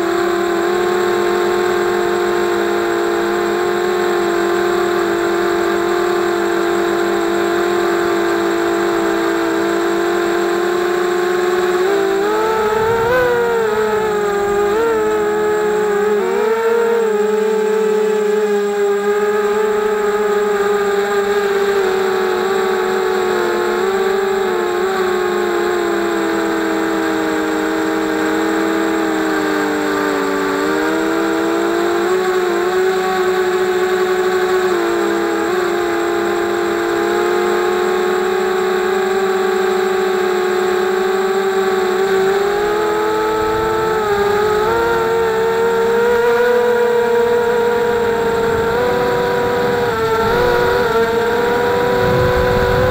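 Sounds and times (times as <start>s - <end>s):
drone propellers whining: 0.0s - 52.9s.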